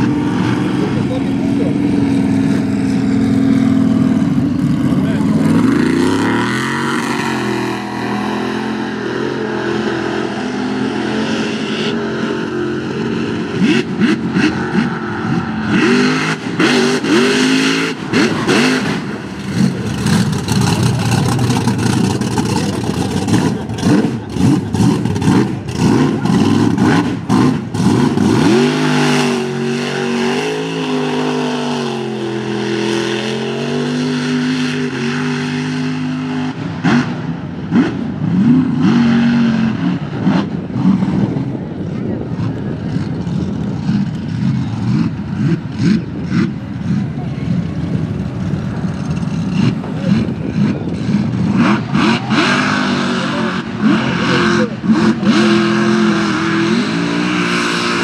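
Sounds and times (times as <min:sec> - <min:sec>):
supercharged engine revving hard: 0:00.0 - 0:43.2, 0:43.8 - 0:47.6, 0:48.6 - 0:58.0.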